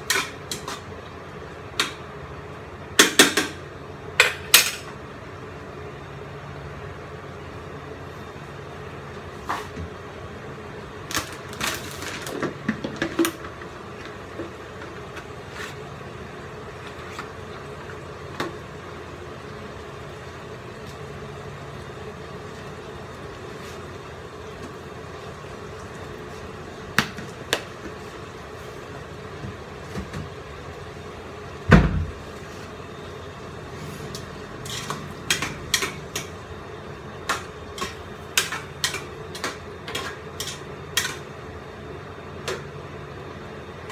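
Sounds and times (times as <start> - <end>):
kitchen background hum: 0.0 - 43.9.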